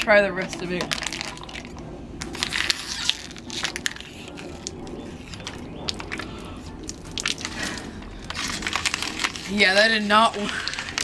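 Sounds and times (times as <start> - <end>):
plastic bottle crinkling: 0.0 - 11.0.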